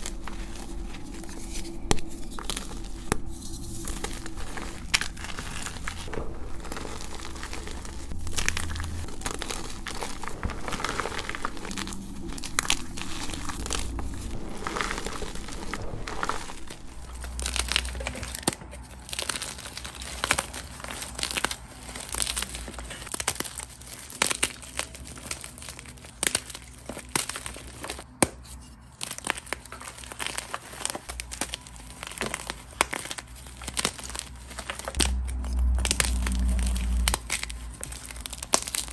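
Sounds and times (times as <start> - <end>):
chalk crushing and crackling: 0.0 - 38.9.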